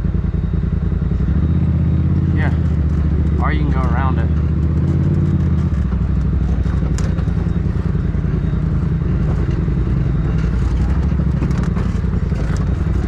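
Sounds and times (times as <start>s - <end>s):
vehicle engine running under load: 0.0s - 13.0s.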